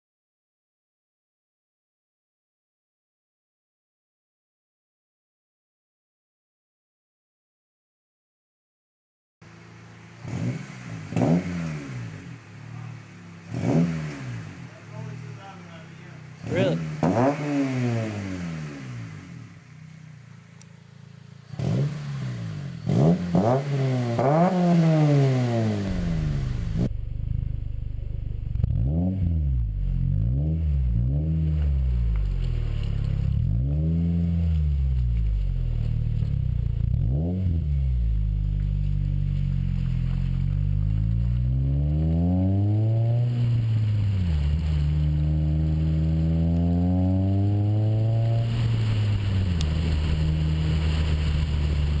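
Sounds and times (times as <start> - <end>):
car engine revving: 9.4 - 52.0.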